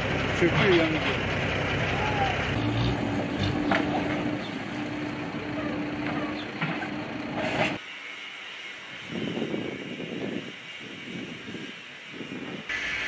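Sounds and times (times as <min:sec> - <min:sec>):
outdoor noise: 0:00.0 - 0:13.0
vehicle engine humming: 0:00.0 - 0:13.0.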